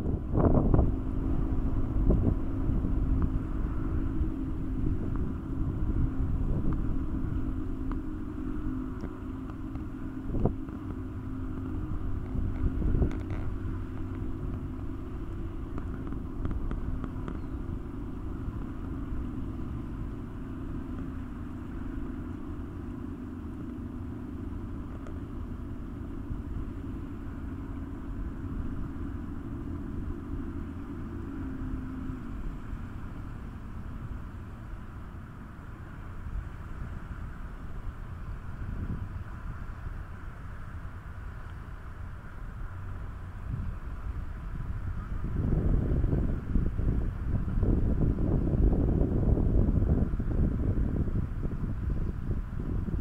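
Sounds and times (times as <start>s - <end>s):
motor running with low hum: 0.0s - 53.0s.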